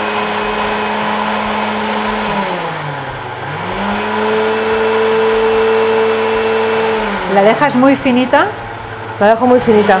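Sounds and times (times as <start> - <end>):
blender motor running: 0.0 - 10.0.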